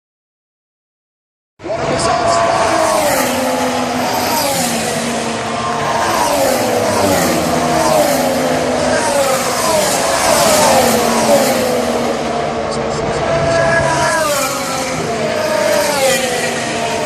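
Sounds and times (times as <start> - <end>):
racing car engine at speed: 1.6 - 17.0.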